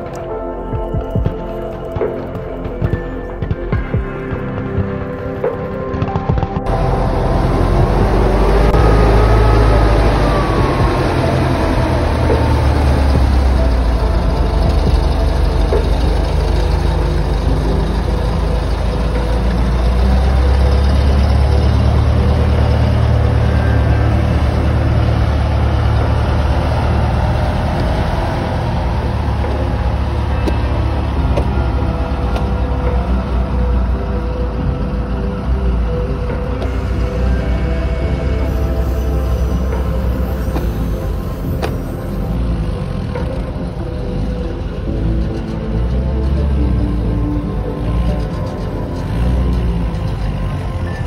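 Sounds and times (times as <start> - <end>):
engine whine: 0.0 - 51.0
tracked vehicle engine running: 0.0 - 51.0.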